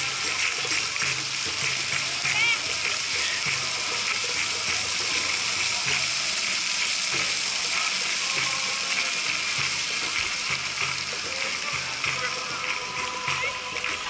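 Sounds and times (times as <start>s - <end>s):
crowd chatter: 0.0s - 14.0s
fountain jets splashing: 0.0s - 14.0s.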